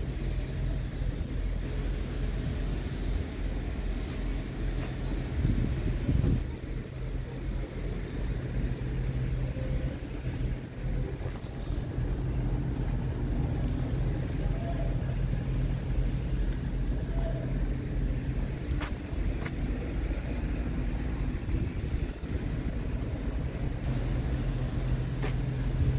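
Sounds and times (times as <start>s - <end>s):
diesel engine idling: 0.0s - 25.9s.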